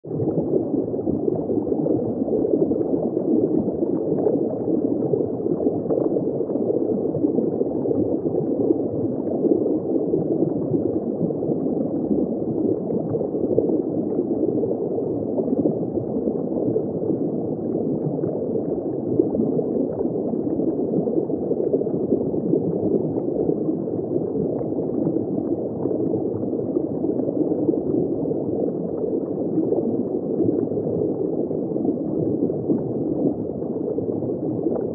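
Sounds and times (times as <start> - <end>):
underwater bubbling hiss: 0.2 - 34.8.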